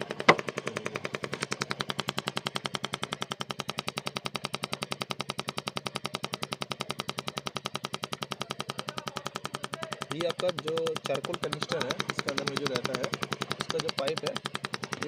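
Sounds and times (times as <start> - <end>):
rapid ticking clicks: 0.0 - 15.0.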